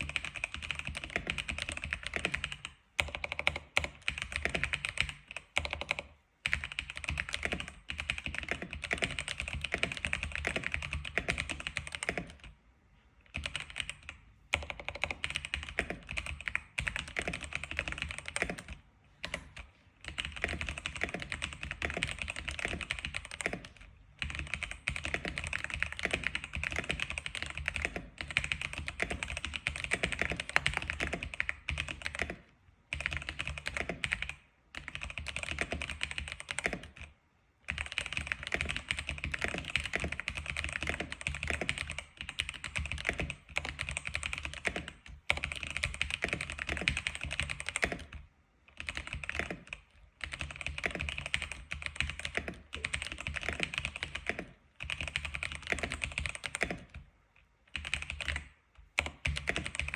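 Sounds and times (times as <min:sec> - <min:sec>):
fast keyboard typing: 0:00.0 - 0:12.5, 0:13.3 - 0:37.1, 0:37.7 - 0:57.1, 0:57.7 - 0:59.9.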